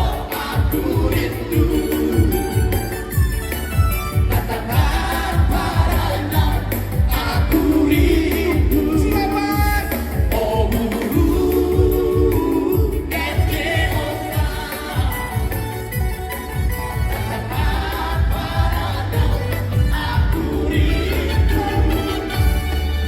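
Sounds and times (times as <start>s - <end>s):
group of voices singing: 0.0s - 3.3s, 4.0s - 23.0s.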